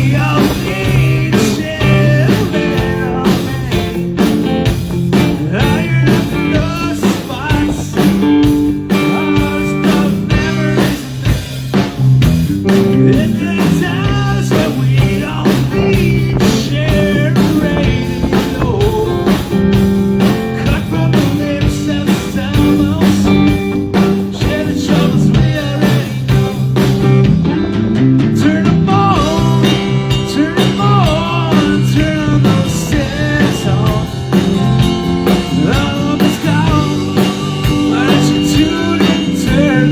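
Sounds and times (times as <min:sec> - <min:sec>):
person singing: 0:00.0 - 0:04.2, 0:05.1 - 0:11.5, 0:12.8 - 0:26.6, 0:28.3 - 0:39.9
steady drum beat: 0:00.0 - 0:27.5, 0:28.4 - 0:39.9
bass guitar: 0:00.0 - 0:39.9
electric guitar: 0:00.0 - 0:39.9.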